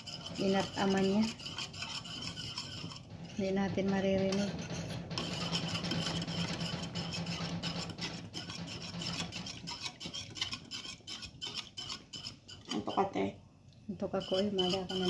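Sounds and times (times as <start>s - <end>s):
whisk scraping metal saucepan: 0.0s - 13.2s, 13.9s - 15.0s.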